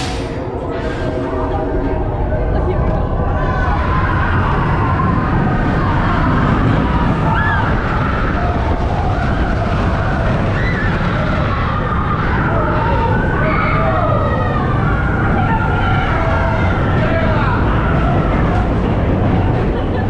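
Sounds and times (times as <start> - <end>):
roller coaster rushing and rumbling: 0.0 - 20.0
riders screaming: 3.5 - 19.6.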